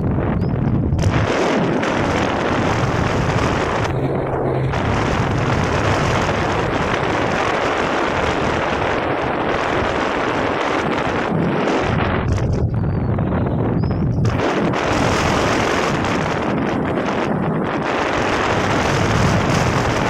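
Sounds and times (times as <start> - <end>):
jet ski engine: 0.0 - 20.0
wind buffeting microphone: 0.0 - 20.0
water rushing: 0.9 - 12.8, 14.2 - 20.0.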